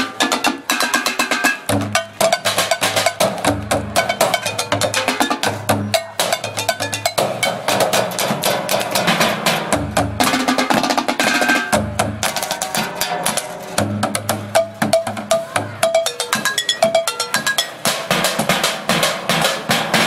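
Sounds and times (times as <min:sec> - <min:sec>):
music with busy drum beat: 0:00.0 - 0:20.0.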